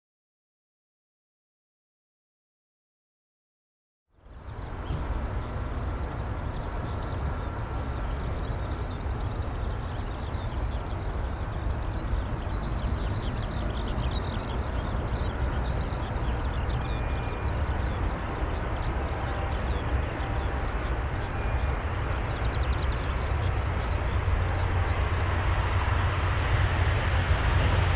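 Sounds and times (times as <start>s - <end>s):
jet engine rumble: 4.2s - 27.9s.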